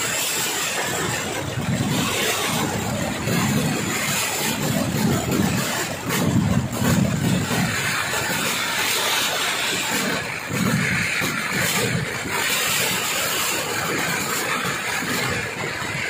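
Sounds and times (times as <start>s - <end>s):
fireworks barrage: 0.0s - 16.0s.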